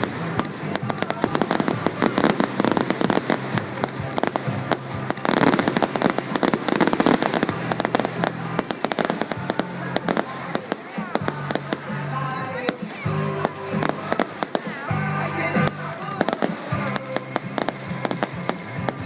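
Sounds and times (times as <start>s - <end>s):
fireworks crackling and banging: 0.0s - 19.0s.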